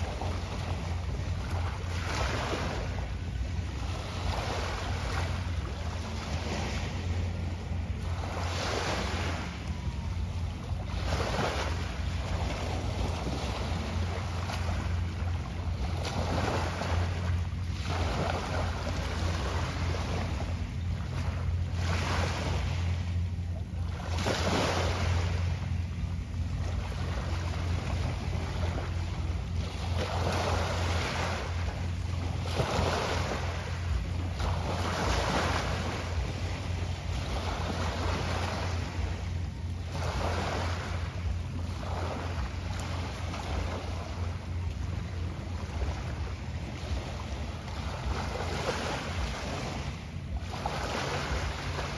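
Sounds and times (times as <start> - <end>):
small waves washing: 0.0 - 51.9
steady low rumble: 0.0 - 51.9.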